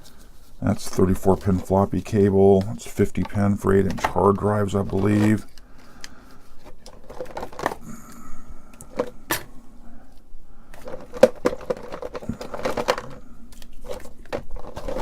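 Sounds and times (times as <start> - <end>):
cables rustling: 0.0 - 15.0.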